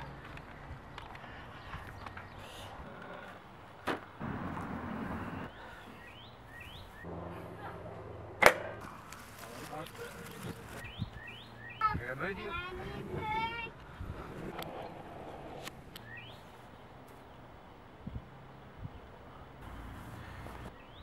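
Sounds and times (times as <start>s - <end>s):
birds chirping: 0.0s - 17.5s, 18.4s - 21.0s.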